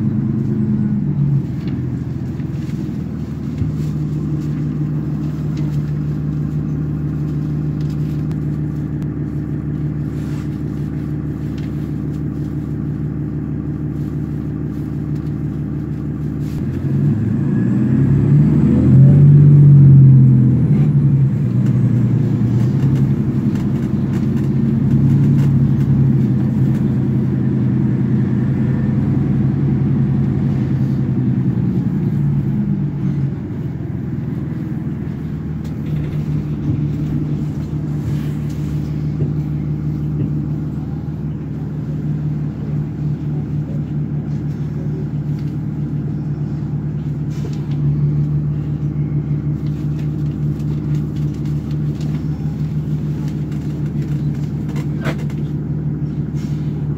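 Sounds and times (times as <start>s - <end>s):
bus diesel engine: 0.0s - 56.9s.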